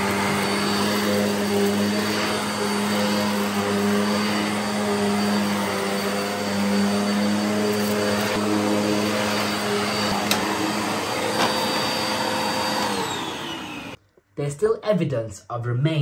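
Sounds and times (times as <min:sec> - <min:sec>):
vacuum cleaner on carpet: 0:00.0 - 0:14.0.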